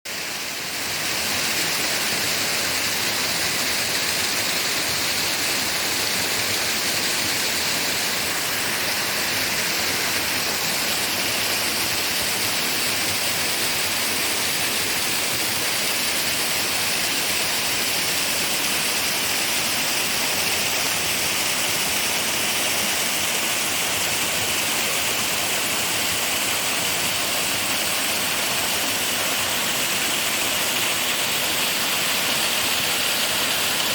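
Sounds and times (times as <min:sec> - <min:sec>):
waterfall pouring and splashing: 0:00.1 - 0:33.9.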